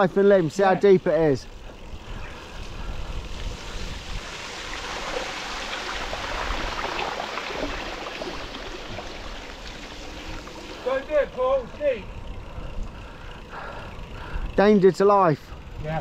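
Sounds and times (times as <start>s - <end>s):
bicycle tyres through floodwater: 0.0s - 16.0s.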